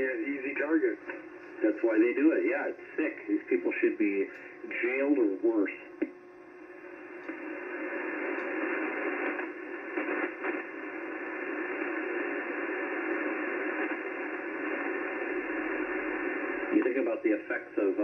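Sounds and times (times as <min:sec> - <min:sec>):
radio receiver static hiss: 0:00.0 - 0:18.0.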